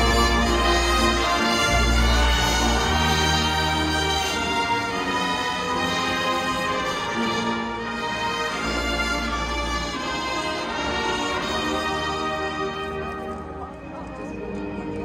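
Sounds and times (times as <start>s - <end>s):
marching band sustained chords: 0.0s - 15.0s.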